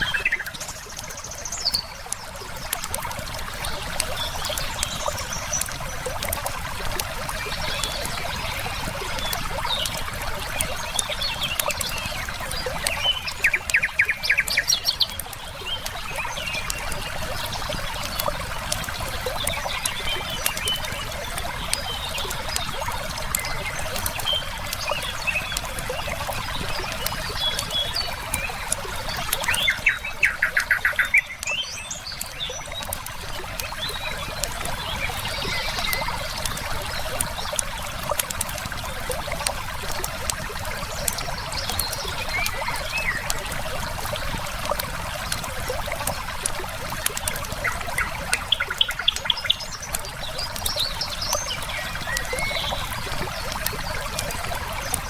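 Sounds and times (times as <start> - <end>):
flowing river water: 0.0 - 55.0
songbird chirps: 0.0 - 55.0
wood fire crackling: 0.0 - 55.0.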